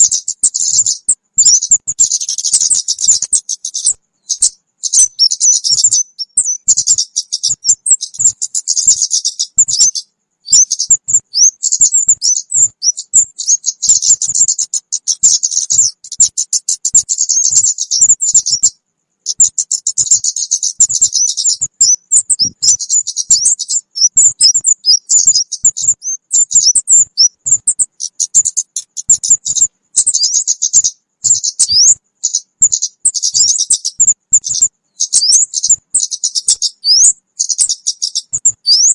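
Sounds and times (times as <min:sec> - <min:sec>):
high thin bird chirps and twitters: 0:00.0 - 0:38.9.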